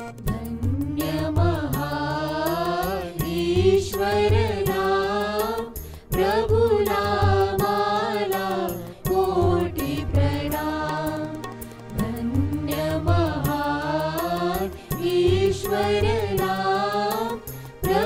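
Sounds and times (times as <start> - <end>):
devotional music backing with low beat: 0.0 - 18.0.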